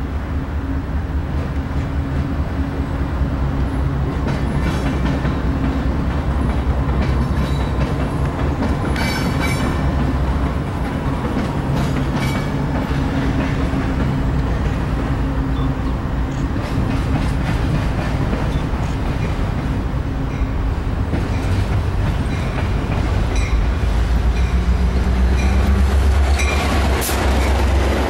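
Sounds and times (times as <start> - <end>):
freight train rumbling past: 0.0 - 28.0
wheels clacking over rail joints: 4.0 - 28.0.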